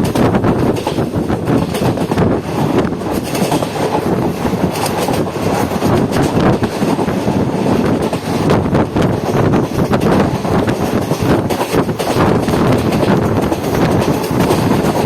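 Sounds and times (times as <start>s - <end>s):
train wheels clattering on rails: 0.0s - 15.0s
wind noise: 0.0s - 15.0s.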